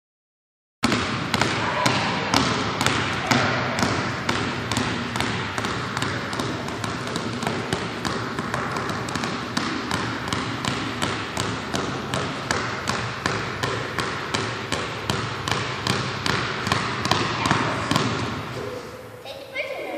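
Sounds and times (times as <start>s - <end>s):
basketballs bouncing in a gym: 0.8s - 18.9s.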